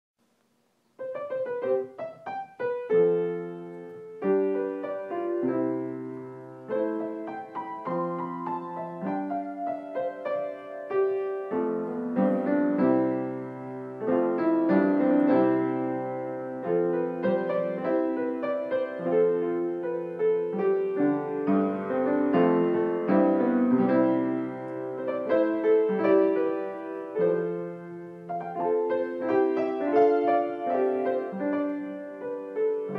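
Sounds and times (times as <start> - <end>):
piano music: 0.9 - 32.9.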